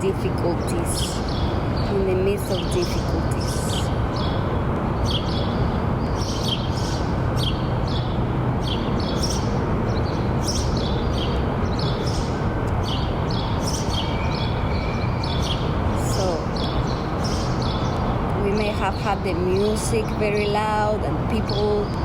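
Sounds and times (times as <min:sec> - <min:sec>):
birds chirping: 0:00.0 - 0:22.0
steady background rumble: 0:00.0 - 0:22.0.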